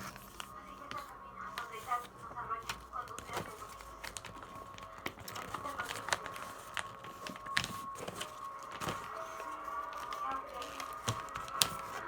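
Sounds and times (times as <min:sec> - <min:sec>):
paper crinkling and creasing: 0:00.0 - 0:12.0.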